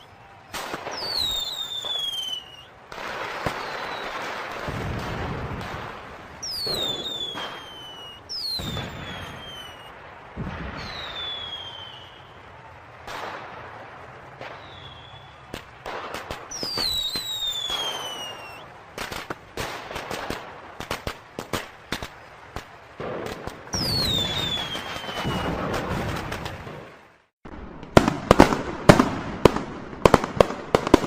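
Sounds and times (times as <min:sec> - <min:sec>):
firework pops and blasts: 0:00.0 - 0:12.4, 0:13.0 - 0:31.0
firecrackers cracking: 0:00.0 - 0:31.0
whistling fireworks: 0:00.0 - 0:31.0.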